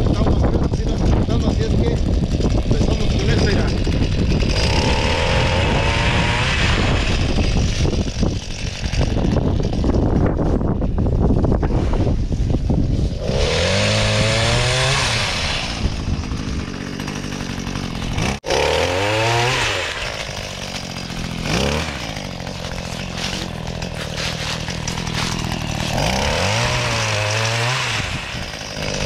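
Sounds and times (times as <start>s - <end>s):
pole saw engine revving: 0.0s - 10.6s, 11.7s - 29.0s.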